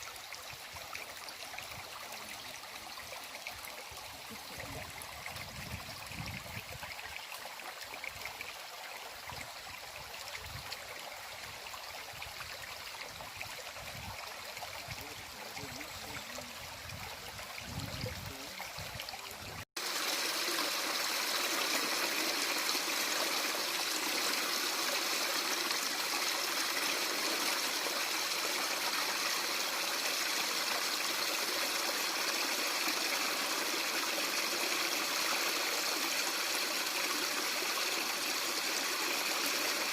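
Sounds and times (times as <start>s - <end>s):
rushing water: 0.0s - 39.9s
stream trickling over stones: 0.0s - 39.9s.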